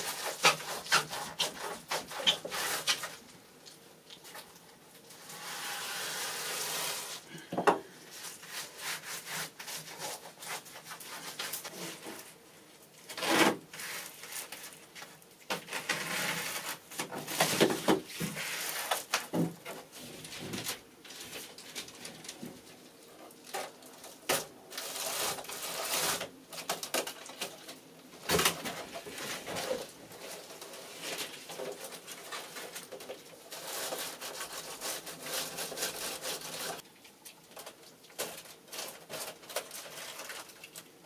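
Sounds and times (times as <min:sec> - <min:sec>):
bubble insulation crinkling: 0:00.0 - 0:41.0.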